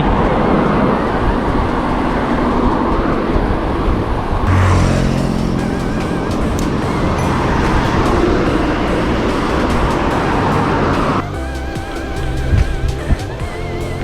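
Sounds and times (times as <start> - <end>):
road traffic: 0.3 - 14.0
vehicle engine hum passing: 0.8 - 14.0.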